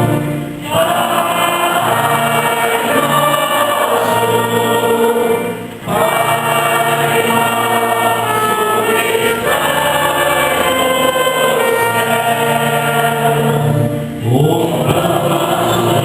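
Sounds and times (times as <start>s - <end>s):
church choir singing a hymn: 0.0s - 16.0s.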